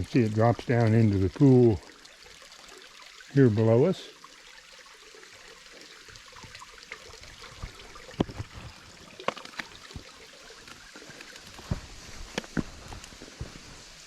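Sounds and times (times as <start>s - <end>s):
creek water trickling over rocks: 0.0s - 14.0s.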